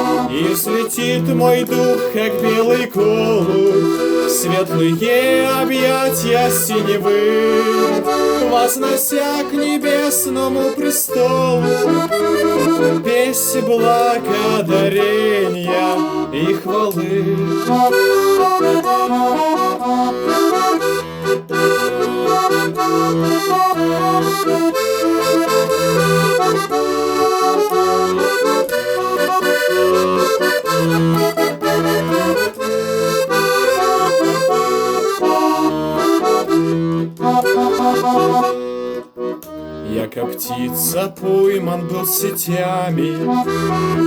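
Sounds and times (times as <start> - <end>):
accordion playing hymn tune: 0.0 - 44.0.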